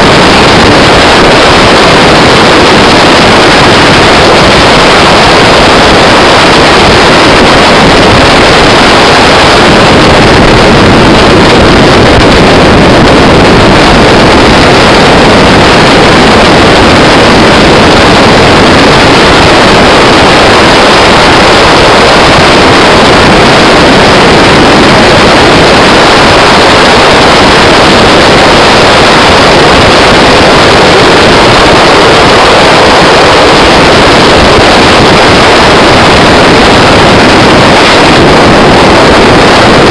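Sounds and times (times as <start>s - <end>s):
boat engine running at speed: 0.0s - 39.9s
rushing water: 0.0s - 39.9s
wind buffeting microphone: 0.0s - 39.9s.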